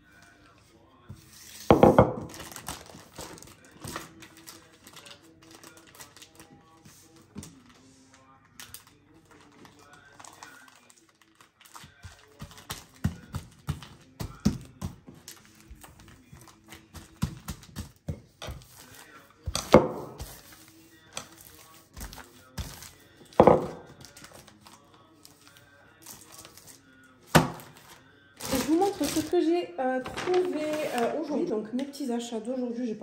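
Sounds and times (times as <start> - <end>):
background music: 0.0 - 33.0.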